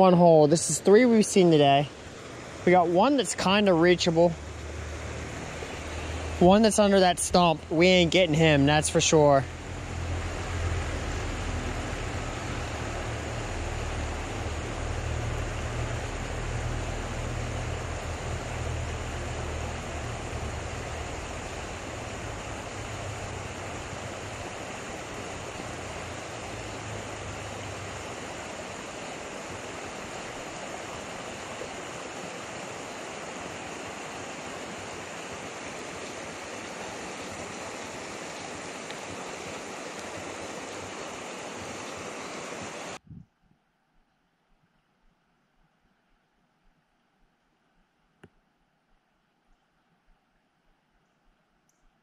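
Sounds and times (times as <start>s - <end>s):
creek water rushing: 0.0s - 43.0s.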